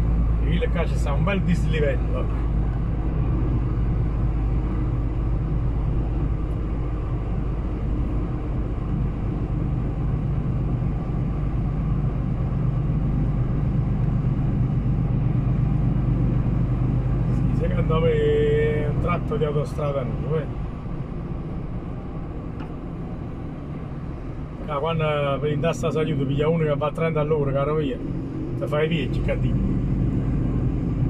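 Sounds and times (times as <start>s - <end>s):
diesel engine hum: 0.0s - 31.0s
road rumble: 0.0s - 31.0s.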